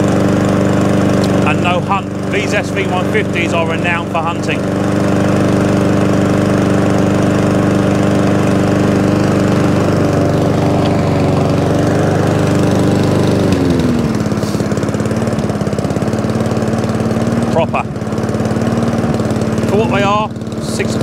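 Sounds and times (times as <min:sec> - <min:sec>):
mower engine running: 0:00.0 - 0:21.0.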